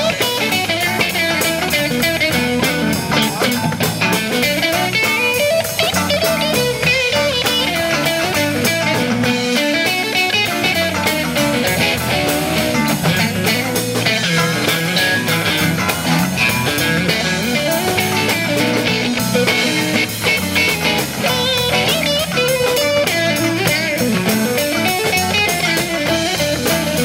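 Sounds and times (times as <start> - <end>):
bass guitar: 0.0 - 27.0
drum kit beat: 0.0 - 27.0
electric guitars: 0.0 - 27.0.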